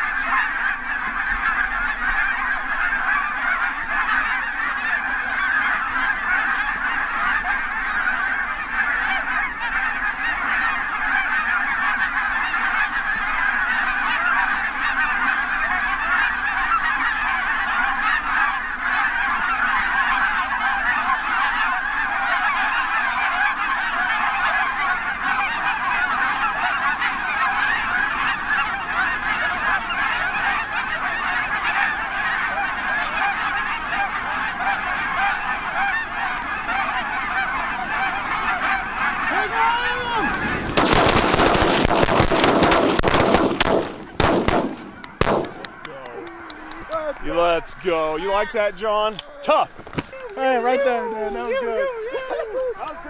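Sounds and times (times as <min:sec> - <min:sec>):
geese honking: 0:00.0 - 0:53.0.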